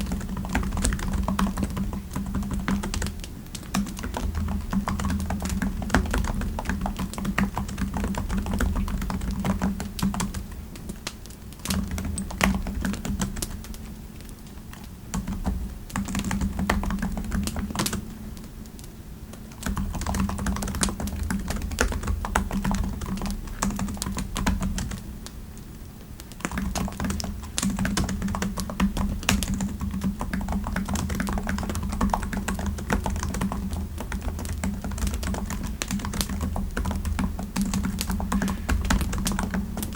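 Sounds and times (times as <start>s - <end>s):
typing on a computer keyboard: 0.0s - 25.1s, 26.2s - 39.9s.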